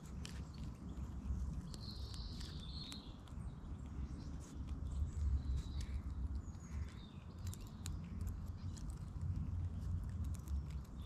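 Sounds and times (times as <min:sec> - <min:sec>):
squirrel cracking and chewing nuts: 0:00.0 - 0:11.0.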